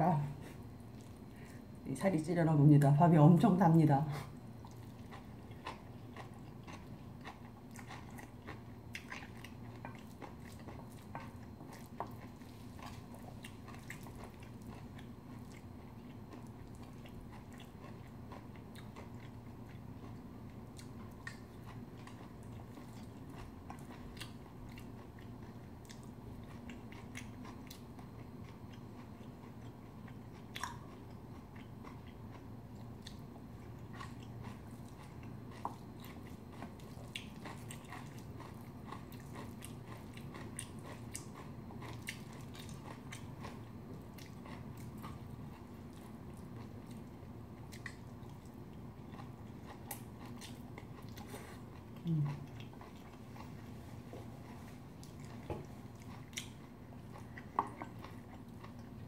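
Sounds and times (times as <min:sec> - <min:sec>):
steady low hum: 0:00.0 - 0:59.0
close-miked chewing: 0:00.1 - 0:01.8, 0:04.0 - 0:59.0.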